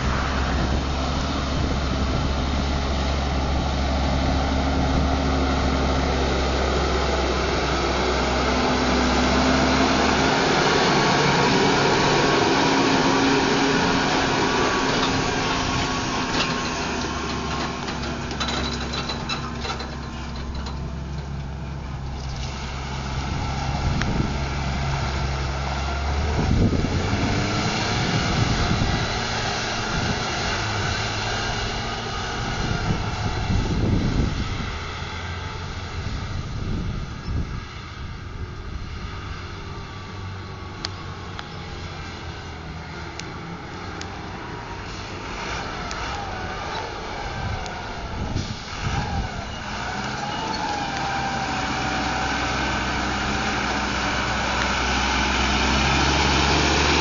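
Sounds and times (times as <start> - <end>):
distant engine noise: 0.0 - 57.0
tractor engine pulling away: 0.0 - 57.0.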